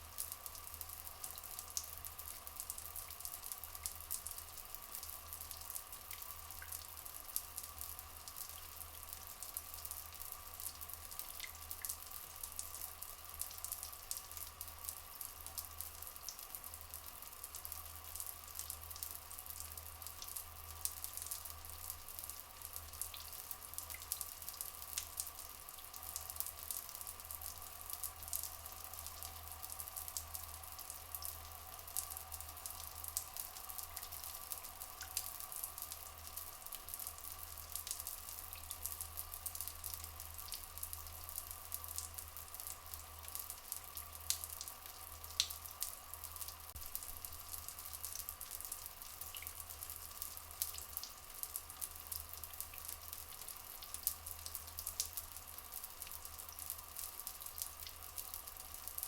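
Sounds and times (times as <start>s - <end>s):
stream water trickling: 0.0s - 59.0s.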